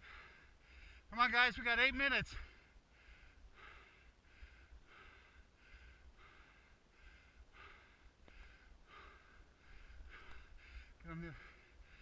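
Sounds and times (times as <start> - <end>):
heavy rhythmic breathing: 0.0 - 1.2, 2.3 - 12.0
low wind rumble: 0.0 - 12.0.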